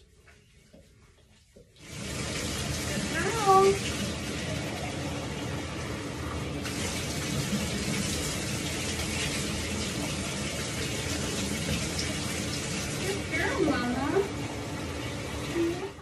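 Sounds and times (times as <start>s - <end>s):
bathtub tap running: 0.7s - 16.0s.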